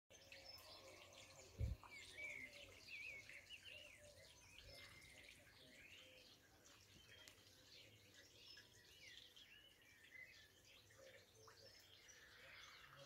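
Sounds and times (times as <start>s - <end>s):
faint birdsong: 0.1s - 13.0s.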